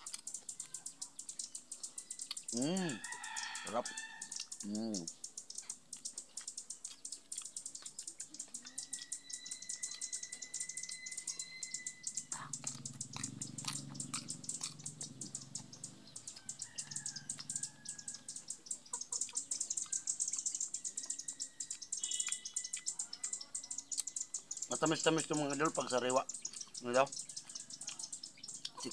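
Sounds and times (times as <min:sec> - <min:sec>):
chewing crisp raw gourd: 0:00.0 - 0:02.5, 0:04.2 - 0:04.6, 0:05.5 - 0:24.6, 0:25.2 - 0:28.9
birds chirping: 0:00.0 - 0:28.9
fast fine ticking: 0:04.3 - 0:28.9.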